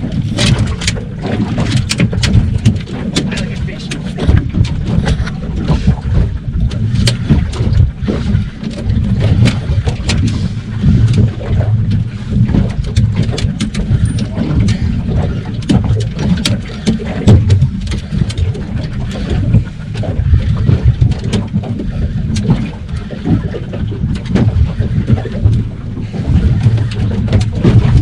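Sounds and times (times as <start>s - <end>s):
water slapping boat hull: 0.0s - 28.0s
wind buffeting microphone: 0.0s - 28.0s
sharp clicks and knocks: 0.1s - 23.4s, 26.4s - 28.0s.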